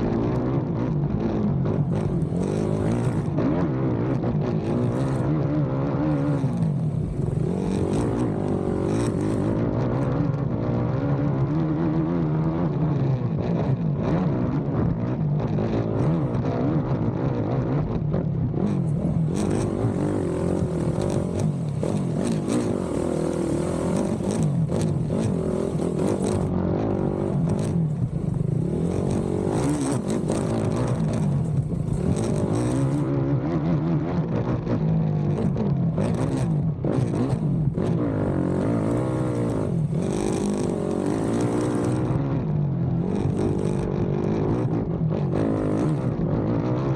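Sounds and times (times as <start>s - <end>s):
quad bike engine revving: 0.0s - 46.9s.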